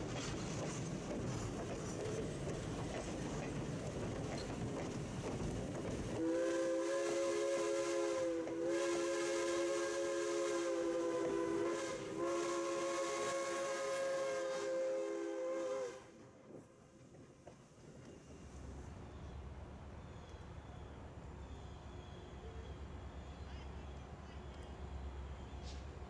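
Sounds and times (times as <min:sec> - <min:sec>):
rumble of passing train: 0:00.0 - 0:26.0.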